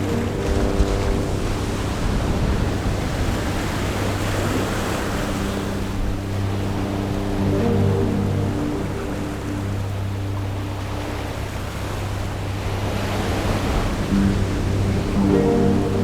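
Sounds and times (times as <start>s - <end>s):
sea surf washing on shore: 0.0s - 16.0s
soft background music: 0.0s - 16.0s.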